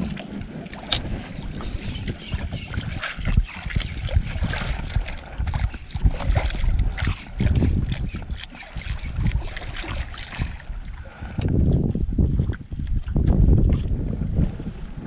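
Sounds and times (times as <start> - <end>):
water lapping against boat hull: 0.0 - 15.0
wind buffeting microphone: 0.0 - 15.0.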